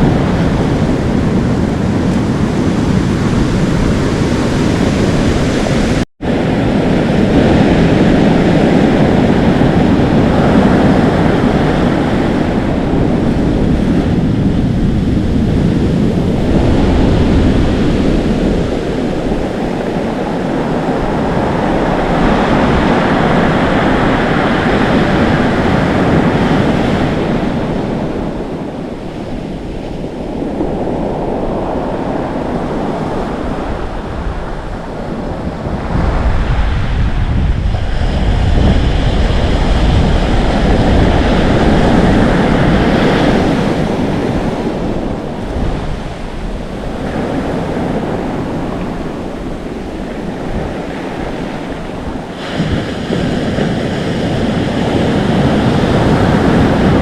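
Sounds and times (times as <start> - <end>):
ocean waves crashing: 0.0 - 57.0
wind on microphone: 0.0 - 57.0.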